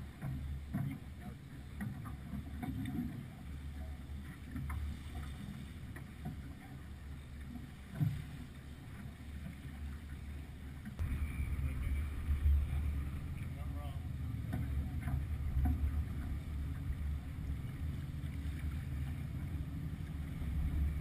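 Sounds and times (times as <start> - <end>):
water rushing along hull: 0.0 - 21.0.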